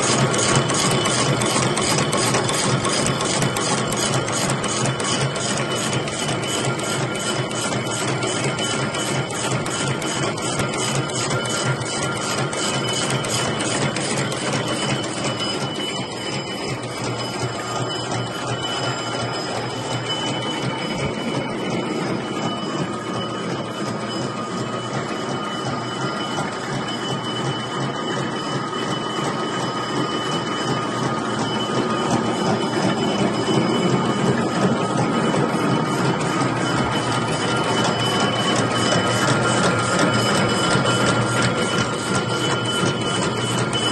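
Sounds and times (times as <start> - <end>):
high machine whine: 0.0 - 43.9
wire machine clattering: 0.0 - 43.9.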